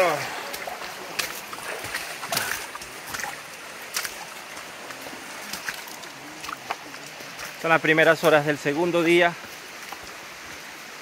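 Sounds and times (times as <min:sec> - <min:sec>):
river flowing over rocks: 0:00.0 - 0:11.0
splashes of people wading: 0:00.0 - 0:11.0.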